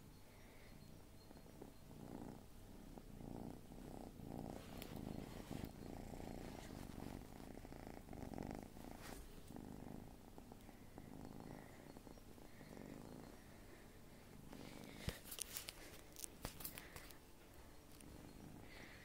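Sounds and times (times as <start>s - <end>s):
kitten purring: 0.2s - 19.0s.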